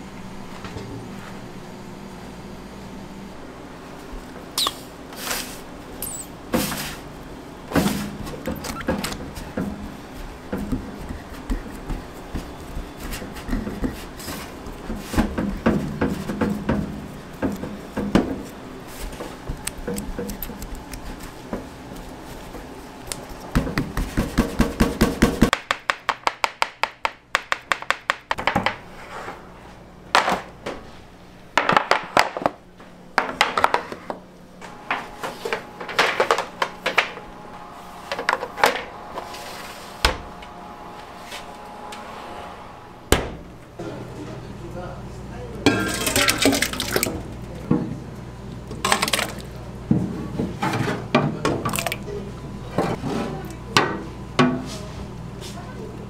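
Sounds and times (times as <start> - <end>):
kitchen background noise: 3.8 - 40.2, 43.7 - 56.0.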